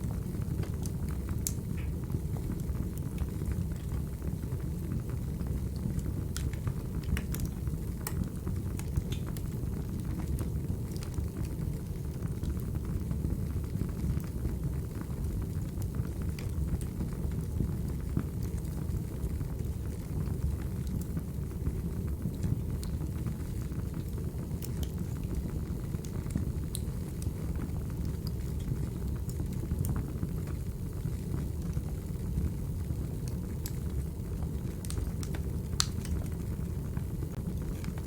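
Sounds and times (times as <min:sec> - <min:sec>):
low rumble of burning logs: 0:00.0 - 0:38.0
wood fire crackling and popping: 0:00.0 - 0:38.0.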